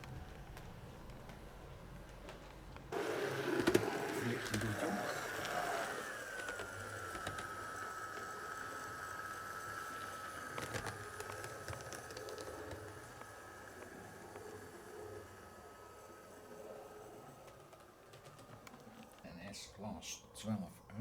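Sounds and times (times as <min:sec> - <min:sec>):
model train motor whine: 0:00.0 - 0:21.0.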